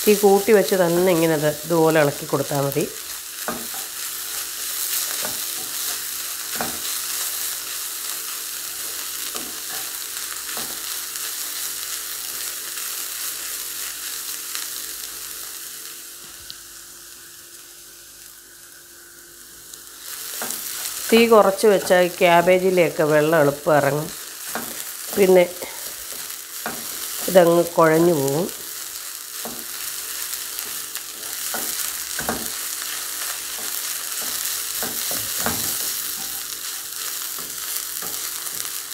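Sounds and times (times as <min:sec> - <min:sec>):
vegetables sizzling in oil: 0:00.0 - 0:38.9.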